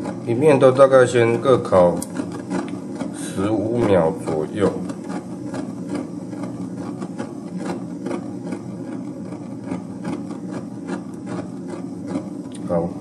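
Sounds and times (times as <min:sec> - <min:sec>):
blowtorch flame: 0:00.0 - 0:13.0.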